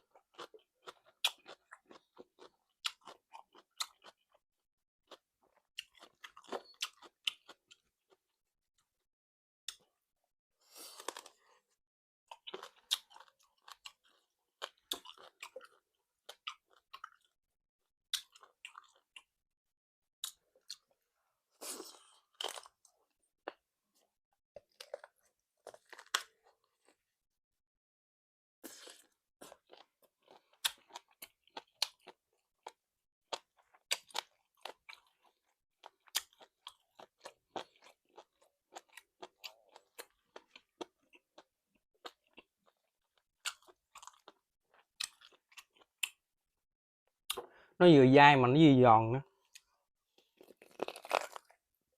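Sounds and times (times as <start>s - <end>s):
chewing crisp food: 0.0s - 4.4s, 5.0s - 8.4s, 10.8s - 17.4s, 18.1s - 19.4s, 20.2s - 27.0s, 28.6s - 46.3s, 49.4s - 51.8s.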